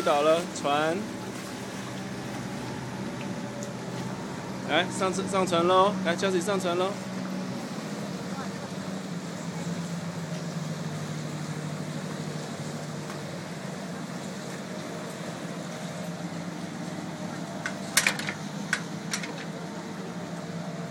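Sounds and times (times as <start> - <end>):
motorboat engine idling: 0.0 - 20.9.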